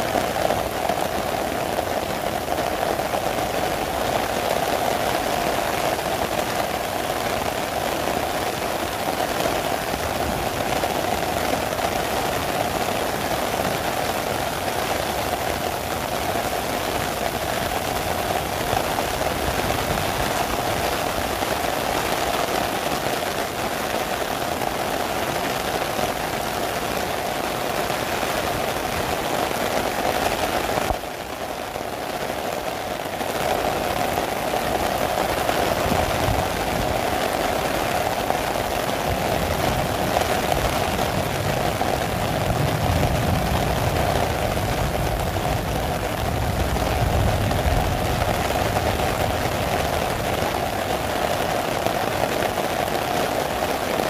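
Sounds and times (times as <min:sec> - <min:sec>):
heavy rain on an umbrella: 0:00.0 - 0:54.0.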